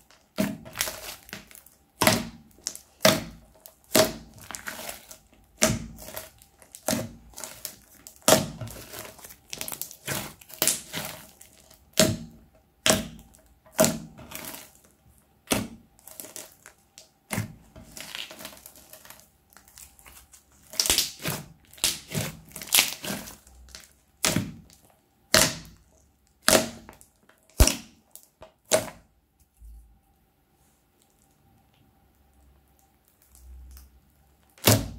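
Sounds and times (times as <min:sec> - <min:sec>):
crunchy slime crackling and popping: 0:00.0 - 0:29.1, 0:31.0 - 0:34.9.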